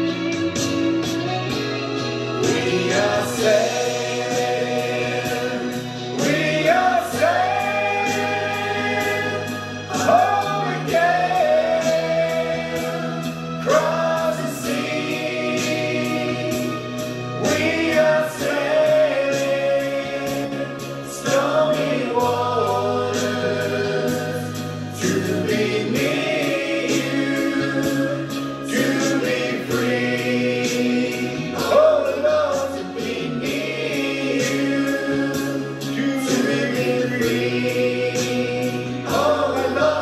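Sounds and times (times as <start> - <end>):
bass line: 0.0 - 40.0
choir singing slow chords: 1.6 - 40.0.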